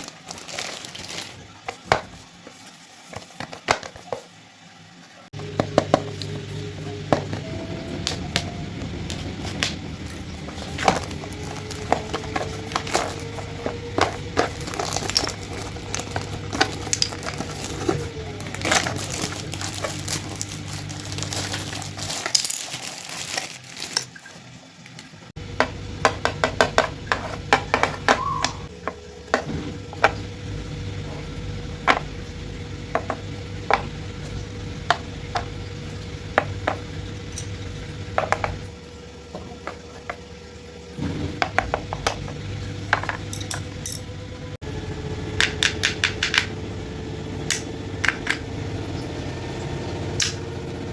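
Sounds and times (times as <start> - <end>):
steady low hum: 5.3 - 22.6, 25.3 - 50.9.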